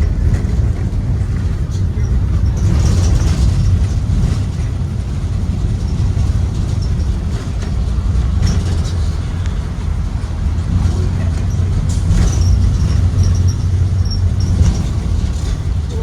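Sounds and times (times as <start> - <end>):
bus engine and road rumble: 0.0 - 16.0
rattles and clicks: 0.0 - 16.0.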